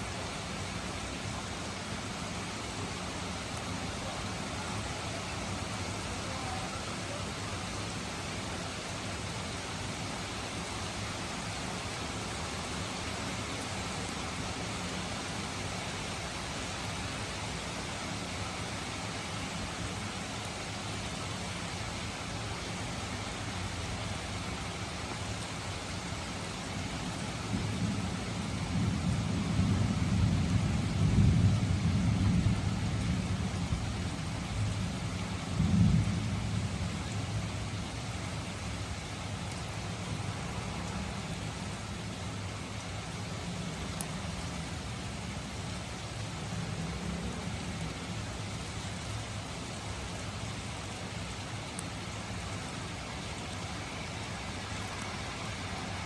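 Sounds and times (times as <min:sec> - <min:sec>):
gentle rain: 0:00.0 - 0:56.0.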